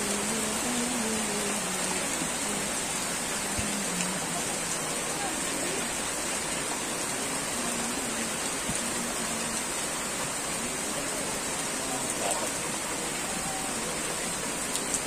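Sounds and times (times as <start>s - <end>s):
heavy rain on grass: 0.0s - 15.0s.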